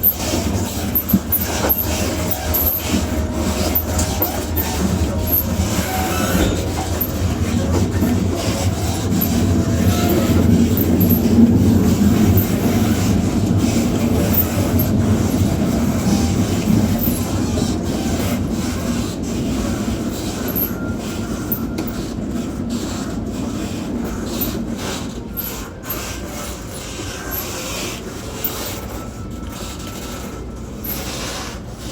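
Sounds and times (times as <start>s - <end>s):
gangway plates rubbing and creaking: 0.0s - 31.9s
train wheels on rails: 0.0s - 31.9s.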